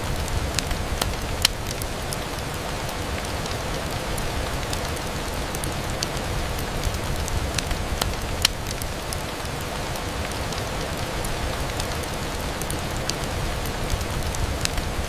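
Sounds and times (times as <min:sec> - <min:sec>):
rain on window glass: 0:00.0 - 0:15.0
raindrop ticks: 0:00.0 - 0:15.0.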